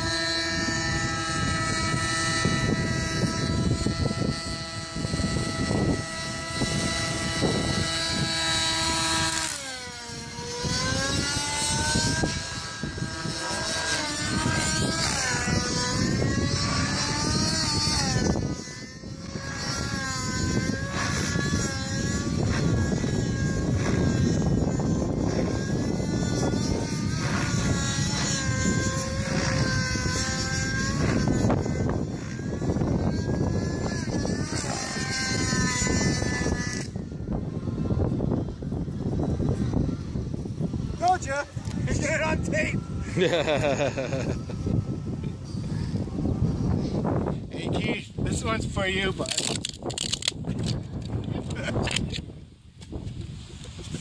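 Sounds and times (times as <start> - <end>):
model helicopter engine and rotor: 0.0 - 54.0.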